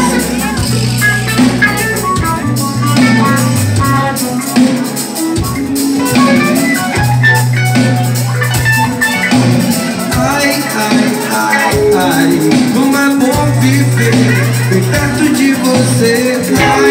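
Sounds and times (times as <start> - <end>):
bass guitar low notes: 0.0 - 16.9
drum kit: 0.0 - 16.9
electric guitar: 0.0 - 16.9
keyboard: 0.0 - 16.9.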